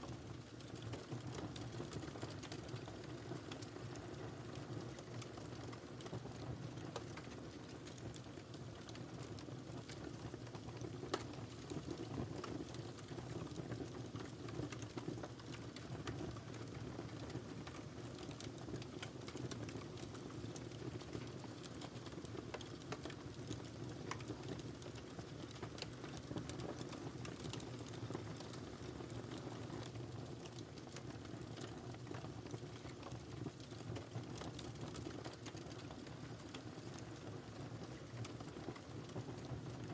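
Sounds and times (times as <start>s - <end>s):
wood fire crackling: 0.1s - 39.9s
fire pops and snaps: 4.5s - 39.9s.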